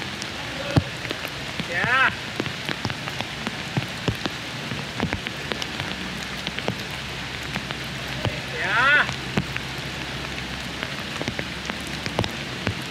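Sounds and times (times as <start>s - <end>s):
drops ticking close by: 0.0s - 12.9s
steady rain: 0.0s - 12.9s.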